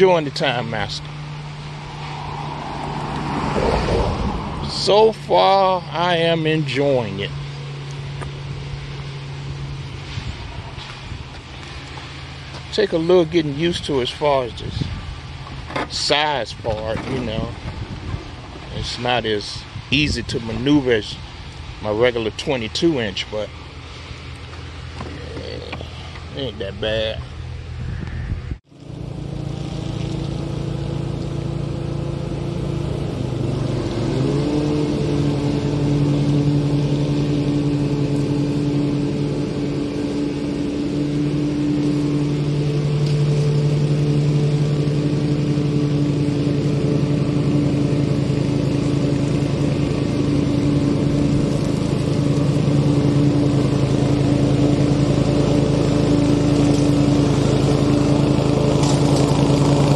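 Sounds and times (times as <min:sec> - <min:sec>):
lawn mower engine running: 0:02.8 - 0:27.8, 0:28.7 - 0:59.9.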